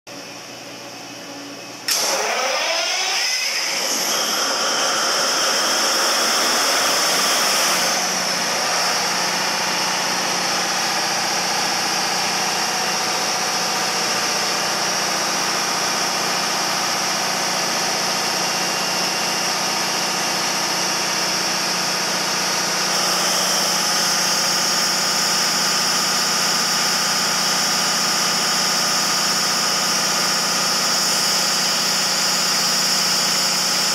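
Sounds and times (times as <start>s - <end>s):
diesel generator engine running: 5.6s - 33.9s.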